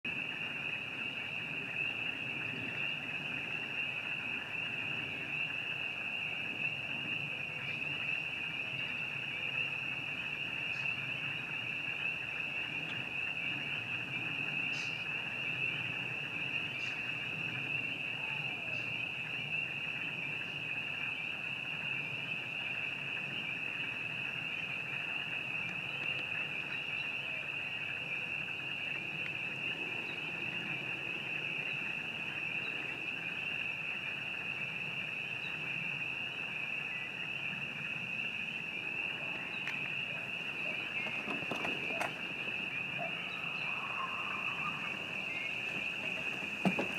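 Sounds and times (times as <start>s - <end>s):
chorus of frogs trilling: 0.1s - 46.9s
higher frog chirps: 0.3s - 46.9s.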